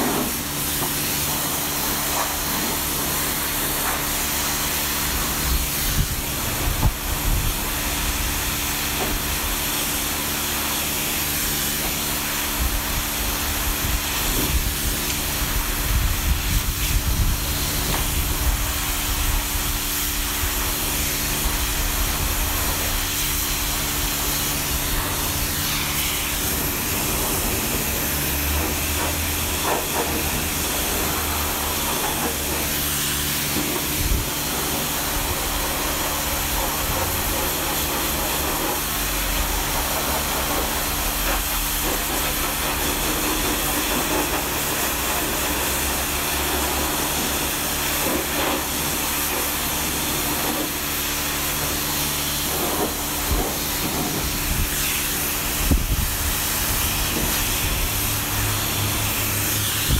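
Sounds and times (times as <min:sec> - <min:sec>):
water jet hissing: 0:00.0 - 0:59.9.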